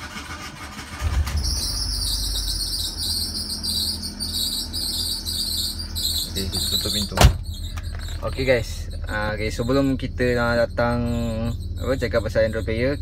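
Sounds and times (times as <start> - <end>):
car engine hum: 0.0 - 13.0
high-pitched pulsing chirping: 1.1 - 13.0.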